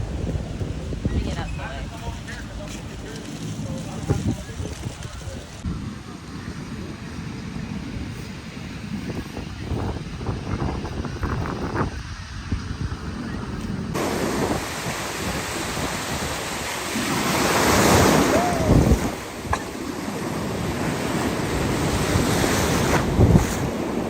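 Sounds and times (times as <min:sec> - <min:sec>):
ocean waves breaking: 0:00.0 - 0:24.0
wind buffeting microphone: 0:00.0 - 0:24.0.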